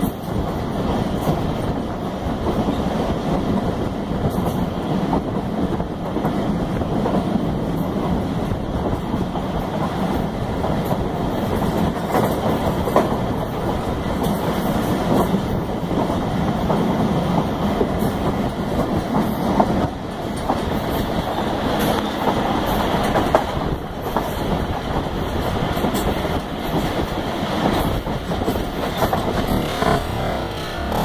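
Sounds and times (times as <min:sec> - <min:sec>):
train rumbling on track: 0:00.0 - 0:31.0
wheels clattering on rails: 0:00.0 - 0:31.0.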